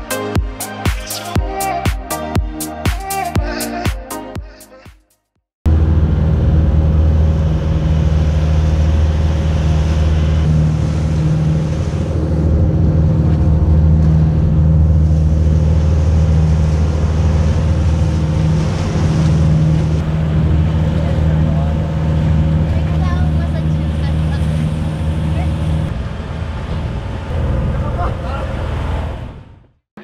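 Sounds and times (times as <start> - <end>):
boat engine droning: 5.7 - 29.8.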